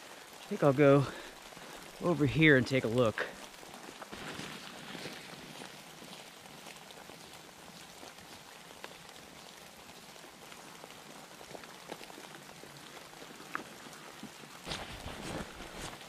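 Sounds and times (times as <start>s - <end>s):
light rain hissing: 0.0s - 16.0s
raindrops ticking: 0.0s - 16.0s.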